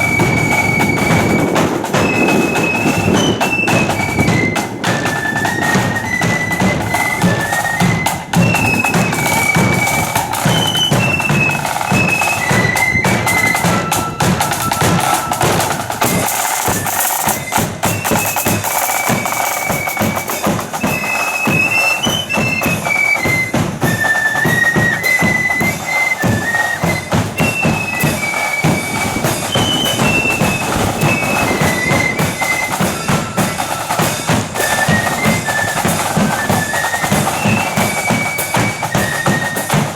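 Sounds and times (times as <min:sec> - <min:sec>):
flutes playing melody: 0:00.0 - 0:39.9
snare drumming: 0:00.0 - 0:39.9.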